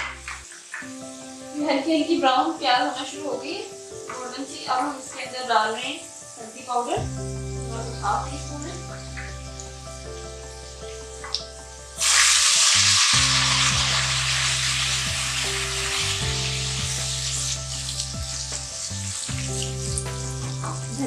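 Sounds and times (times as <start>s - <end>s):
onions sizzling in a pan: 0.0s - 21.0s
soft background music: 0.0s - 21.0s.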